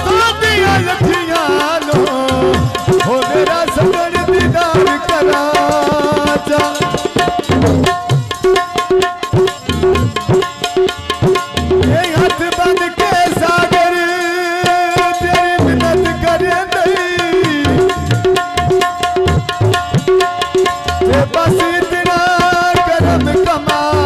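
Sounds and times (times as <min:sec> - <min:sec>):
hand drums playing fast rhythm: 0:00.0 - 0:24.0.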